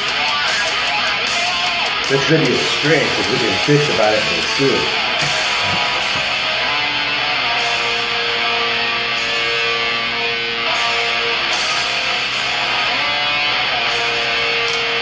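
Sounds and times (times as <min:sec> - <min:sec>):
metalcore song with distorted guitars: 0:00.0 - 0:15.0.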